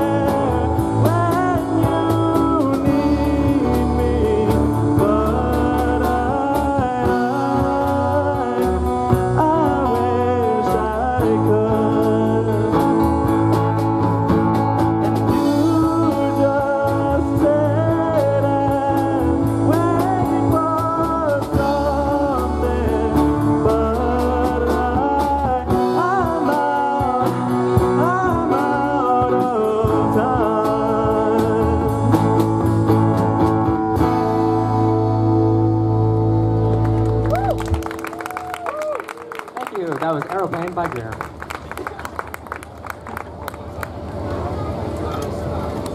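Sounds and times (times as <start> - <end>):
live rock band playing: 0.0 - 41.4.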